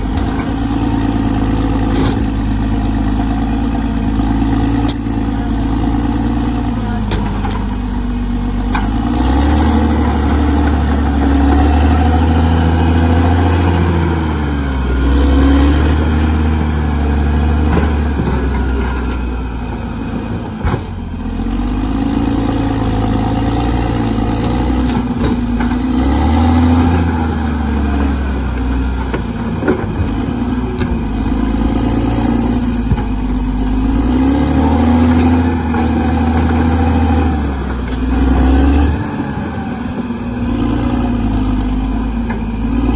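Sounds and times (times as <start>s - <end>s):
bulldozer diesel engine revving: 0.0s - 42.9s.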